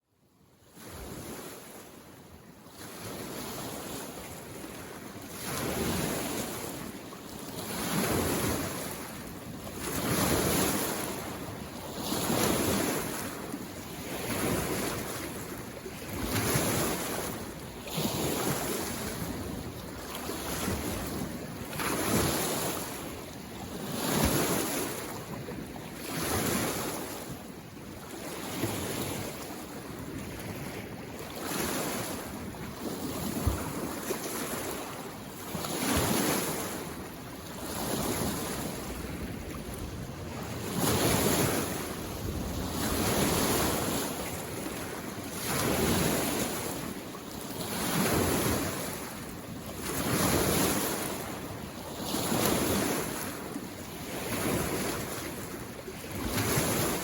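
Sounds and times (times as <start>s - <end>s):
small waves washing on shore: 0.6s - 57.0s.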